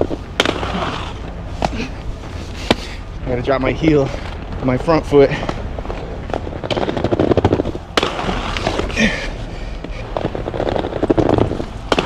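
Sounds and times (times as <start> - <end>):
skate scraping: 0.0 - 3.1, 4.0 - 12.0
skate wheels rattling on pavement: 0.0 - 12.0.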